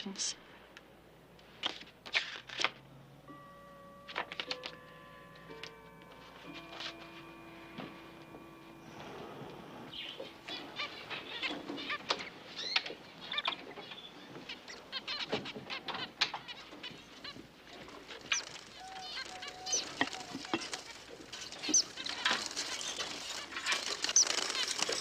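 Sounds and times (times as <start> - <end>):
canaries chirping: 3.3 - 25.0.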